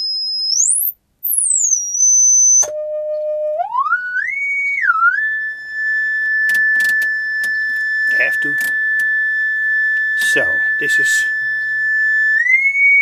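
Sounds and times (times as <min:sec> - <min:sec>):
sine wave test tone whistle: 0:00.0 - 0:13.0.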